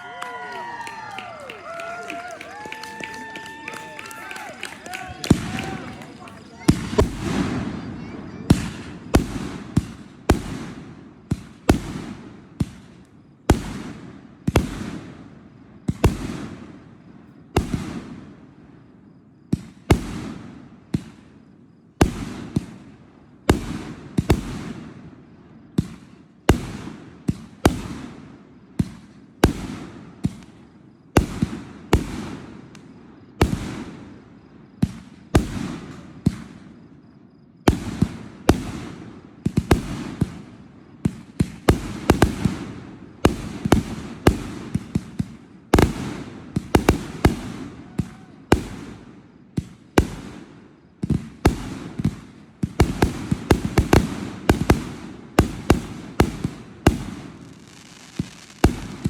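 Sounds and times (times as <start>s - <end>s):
fireworks bangs with echo: 0.0s - 59.0s.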